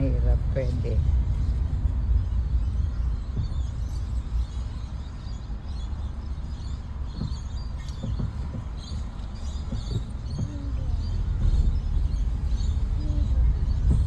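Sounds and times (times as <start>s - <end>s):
low rumble inside car: 0.0s - 14.0s.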